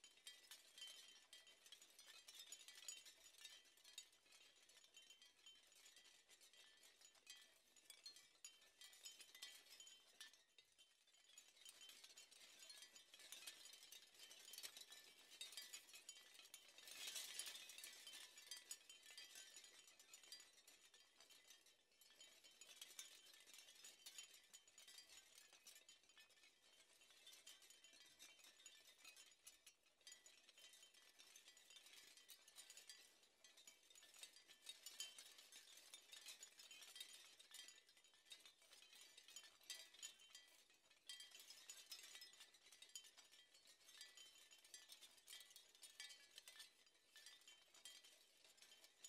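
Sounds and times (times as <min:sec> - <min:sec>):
faint high tinkling and clicking: 0:00.0 - 0:49.0.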